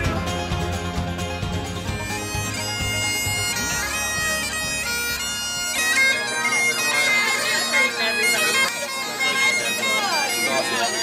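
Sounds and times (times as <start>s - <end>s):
bagpipes playing: 0.0s - 11.0s.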